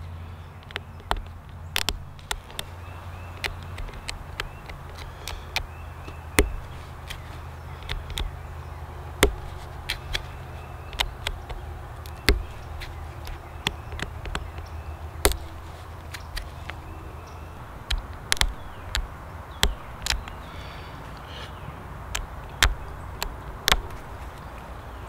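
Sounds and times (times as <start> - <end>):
flint flakes snapping with clicks: 0.5 - 8.4, 9.1 - 21.3, 22.1 - 24.7.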